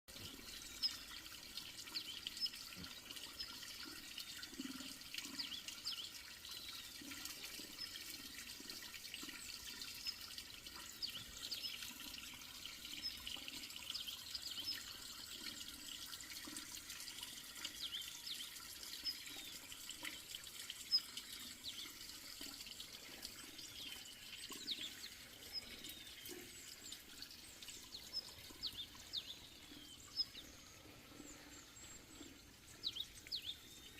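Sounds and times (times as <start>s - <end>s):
water trickling and dripping: 0.1s - 33.9s.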